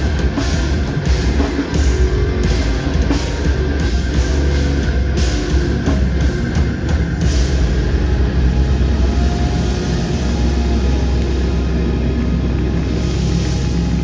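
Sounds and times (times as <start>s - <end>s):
bass guitar: 0.0s - 14.0s
distorted electric guitar: 0.0s - 14.0s
drums: 0.0s - 14.0s.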